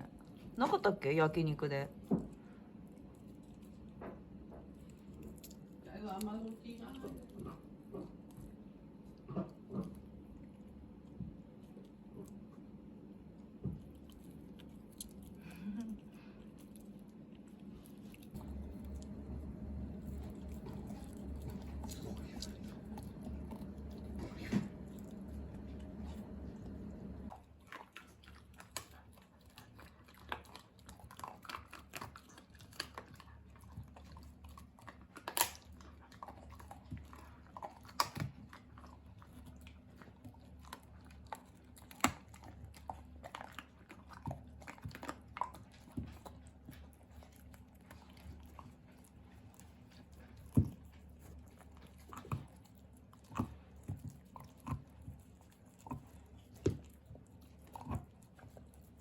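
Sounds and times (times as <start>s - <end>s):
dog gnawing a bone: 0.0s - 59.0s.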